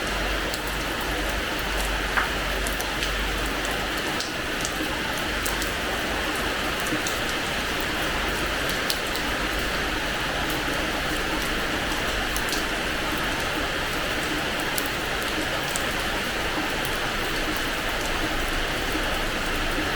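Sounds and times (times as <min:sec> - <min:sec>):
drops ticking and splashing: 0:00.0 - 0:19.9
rain on hard floor: 0:00.0 - 0:19.9.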